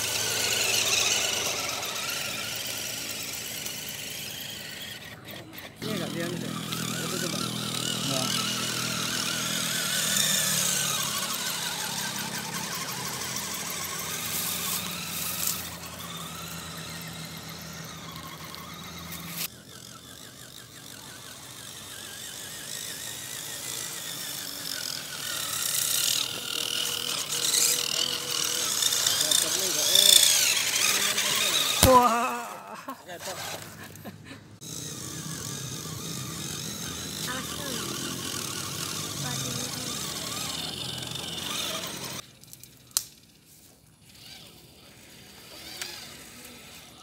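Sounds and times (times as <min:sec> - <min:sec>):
electric motors whining: 0:00.0 - 0:47.0.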